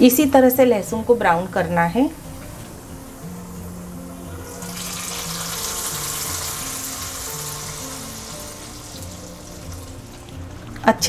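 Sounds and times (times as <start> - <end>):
hot oil sizzling: 1.1 - 11.0.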